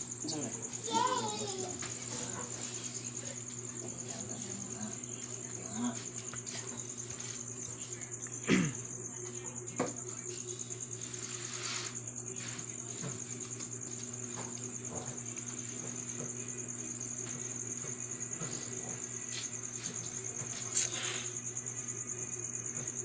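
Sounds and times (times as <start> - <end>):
insect trill: 0.0 - 23.0.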